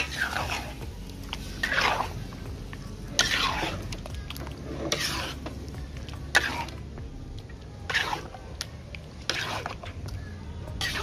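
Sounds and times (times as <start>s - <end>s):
metal spatula scraping a wok: 0.0s - 7.0s, 7.8s - 10.0s, 10.7s - 11.0s
low steady hum: 0.0s - 11.0s.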